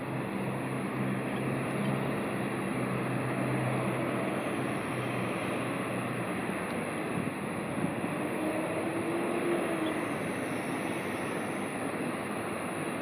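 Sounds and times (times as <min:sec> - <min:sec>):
broad rushing noise: 0:00.0 - 0:13.0
low engine hum: 0:00.0 - 0:13.0.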